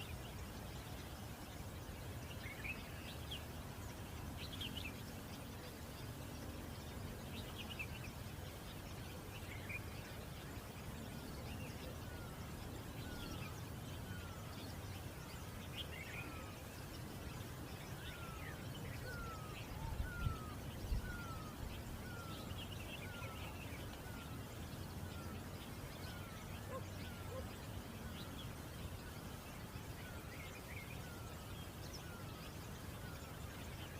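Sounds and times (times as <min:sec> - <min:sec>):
birds calling: 0:01.2 - 0:33.9.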